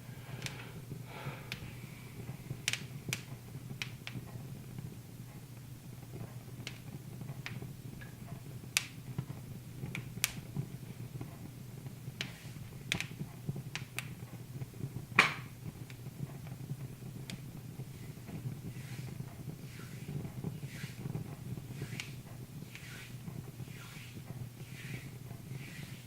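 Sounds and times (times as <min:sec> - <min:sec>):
fire popping: 0:00.0 - 0:26.0
low steady hum: 0:00.0 - 0:26.0
wood fire crackling: 0:00.0 - 0:26.0.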